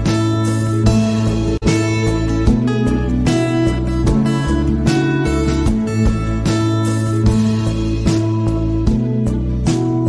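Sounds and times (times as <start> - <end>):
steady beat: 0.0 - 9.1
plucked guitar chords: 0.0 - 10.0.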